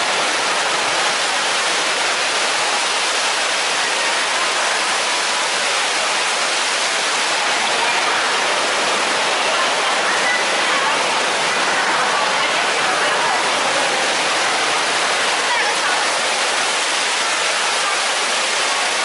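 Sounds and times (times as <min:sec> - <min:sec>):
water pouring and splashing into pool: 0:00.0 - 0:19.0.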